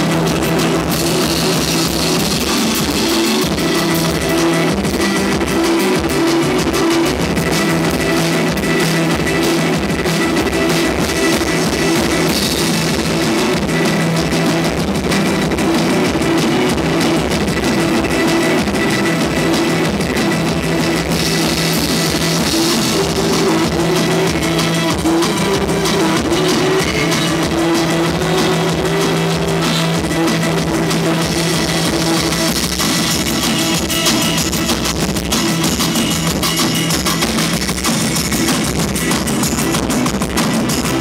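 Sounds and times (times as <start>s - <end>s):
rock band playing: 0.0s - 41.0s.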